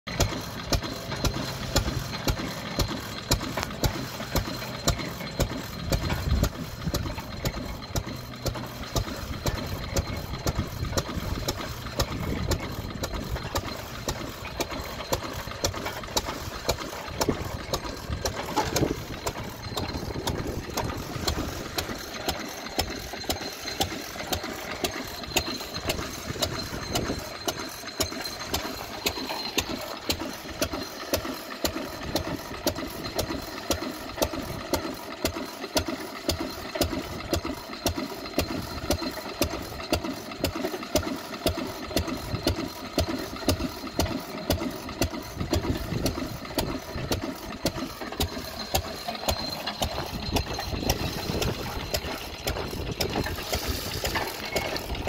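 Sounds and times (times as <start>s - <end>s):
stationary oil engine running: 0.1s - 55.0s.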